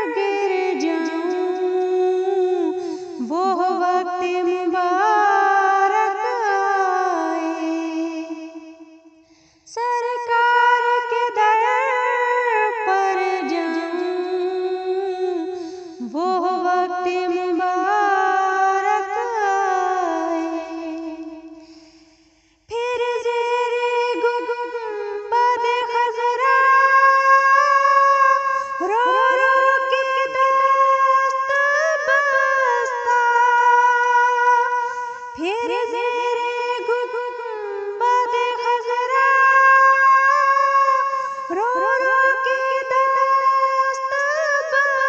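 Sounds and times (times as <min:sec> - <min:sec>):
woman singing unaccompanied: 0:00.0 - 0:08.9, 0:09.7 - 0:22.0, 0:22.7 - 0:45.0.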